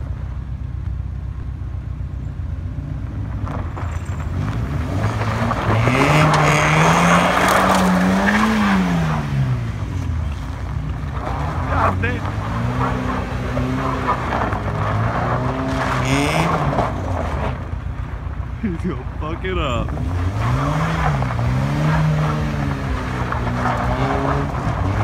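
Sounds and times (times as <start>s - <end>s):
car engine revving: 1.2s - 25.0s.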